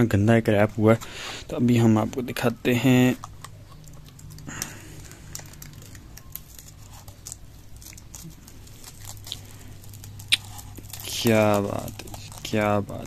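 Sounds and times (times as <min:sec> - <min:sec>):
low steady hum: 0:00.0 - 0:13.0
plastic film peeling and crinkling: 0:02.2 - 0:13.0.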